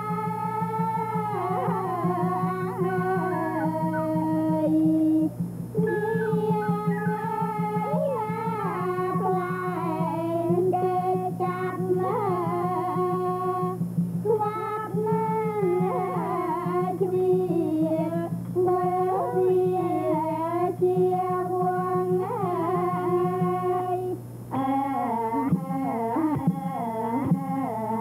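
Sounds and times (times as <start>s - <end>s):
drums: 0.0s - 28.0s
person singing long held notes: 0.0s - 28.0s.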